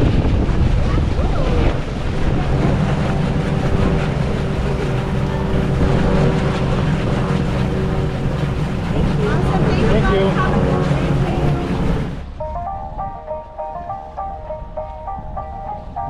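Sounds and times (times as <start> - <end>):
boat engine running: 0.0 - 16.0
wind rumbling on microphone: 0.0 - 16.0
steady pitched hum: 1.5 - 16.0.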